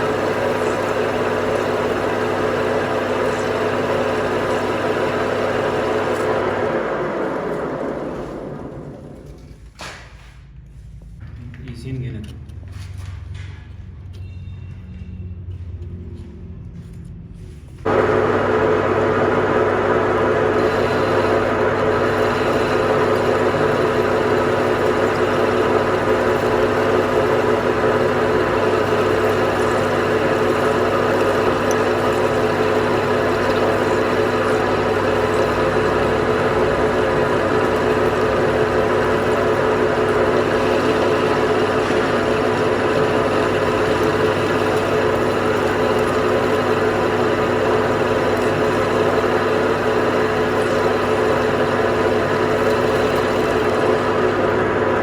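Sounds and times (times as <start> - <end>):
machine motor humming: 0.0 - 9.7, 17.8 - 55.0.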